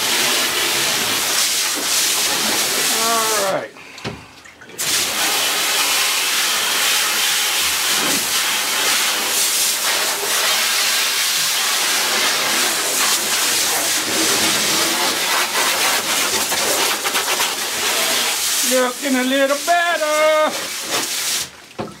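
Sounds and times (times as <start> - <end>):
water spraying from hose nozzle: 0.0 - 3.6, 4.8 - 21.6.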